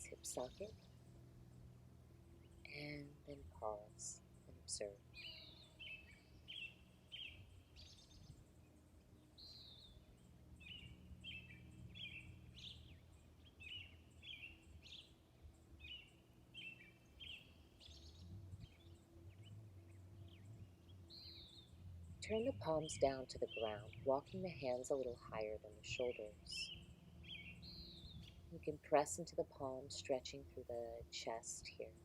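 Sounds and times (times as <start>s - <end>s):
faint low background hum: 0.0s - 32.0s
faint songbirds chirping: 0.0s - 32.0s.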